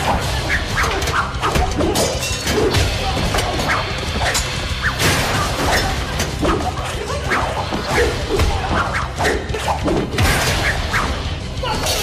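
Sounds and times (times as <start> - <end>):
background music with low beat: 0.0 - 11.8.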